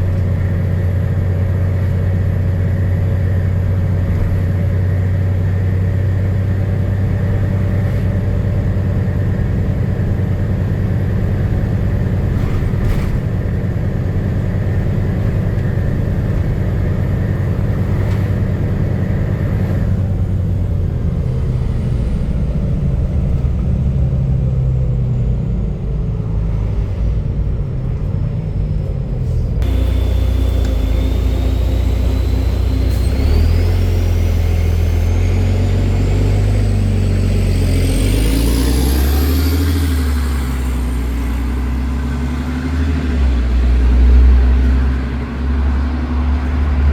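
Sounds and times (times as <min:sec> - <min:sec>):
bus diesel engine rumbling: 0:00.0 - 0:46.9
high engine whine: 0:00.0 - 0:46.9.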